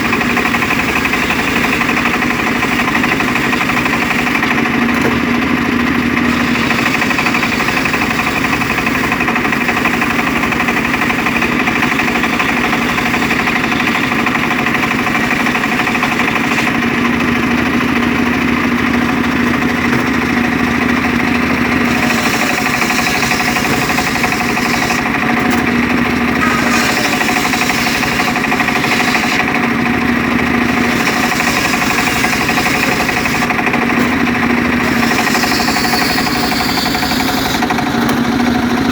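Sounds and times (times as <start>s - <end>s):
engine-driven circular saw running: 0.0s - 38.9s.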